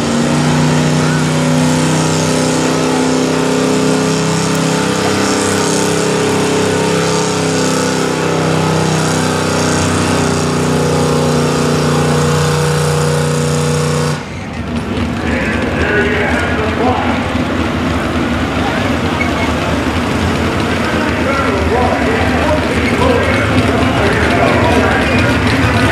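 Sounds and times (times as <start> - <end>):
truck engine revving hard: 0.0 - 25.9.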